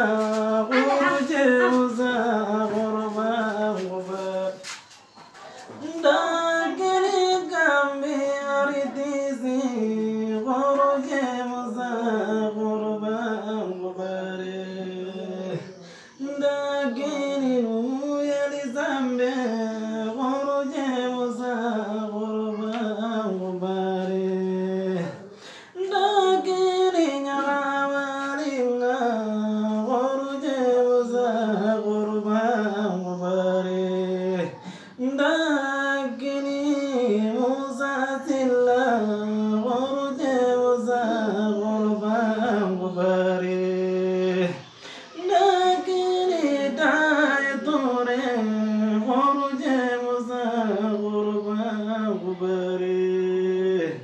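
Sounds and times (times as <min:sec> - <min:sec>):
man singing unaccompanied: 0:00.0 - 0:54.0.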